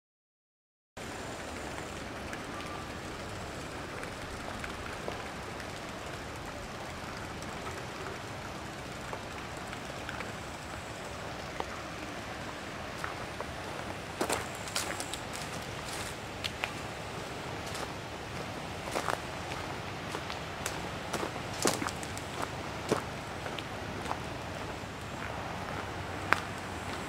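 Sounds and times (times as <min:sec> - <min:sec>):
steady hissing noise: 0:01.0 - 0:27.0.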